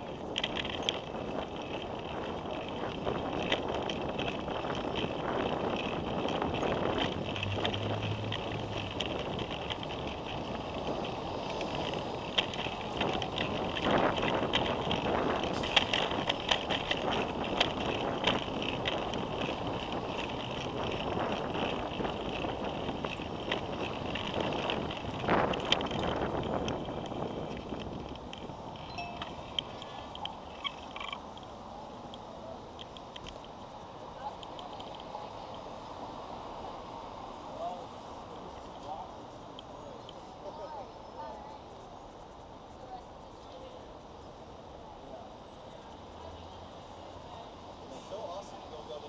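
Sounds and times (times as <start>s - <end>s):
bicycle rattles and clicks: 0.0s - 49.0s
bicycle rolling on pavement: 0.0s - 49.0s.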